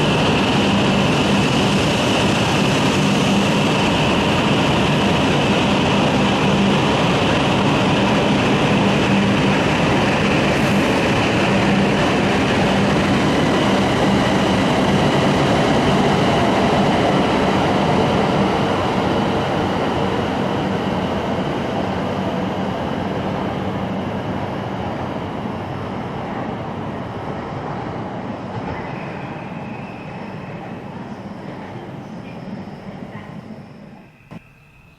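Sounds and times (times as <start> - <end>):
high-speed train rushing past: 0.0 - 34.9.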